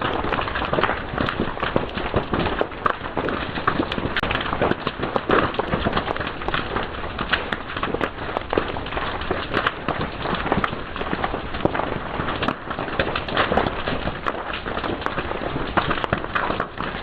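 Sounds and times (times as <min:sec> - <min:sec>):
fire crackling and snapping: 0:00.0 - 0:17.0.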